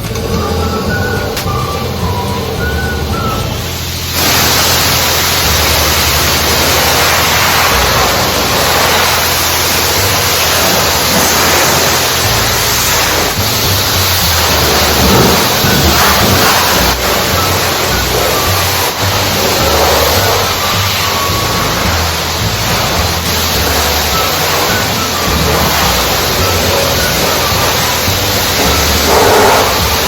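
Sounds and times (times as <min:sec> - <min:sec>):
high-pressure water spray hissing: 0:00.0 - 0:30.0
low pump hum: 0:00.0 - 0:30.0.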